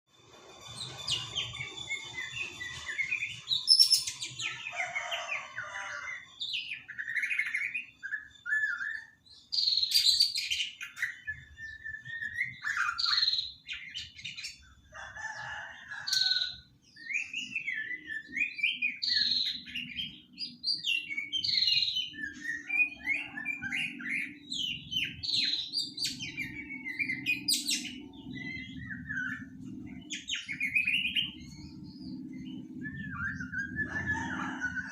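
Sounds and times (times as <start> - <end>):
bird singing: 0.5 - 34.9.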